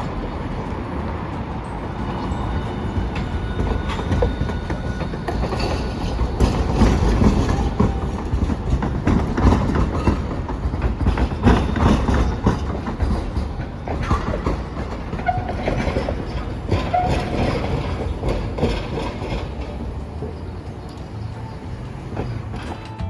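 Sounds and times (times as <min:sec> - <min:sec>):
streetcar rumbling past: 0:00.0 - 0:23.0
wheels clacking over rail joints: 0:00.0 - 0:23.0.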